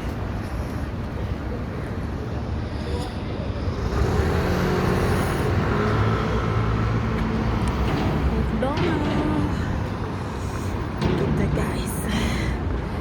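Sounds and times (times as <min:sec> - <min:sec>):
vehicle rumble with low hum: 0:00.0 - 0:13.0.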